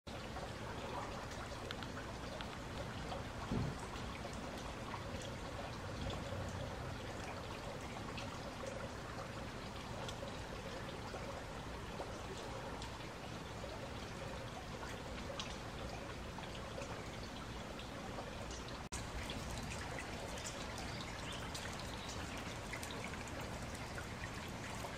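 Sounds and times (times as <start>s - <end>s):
steady rain: 0.1s - 24.9s
water running and trickling: 0.1s - 24.9s.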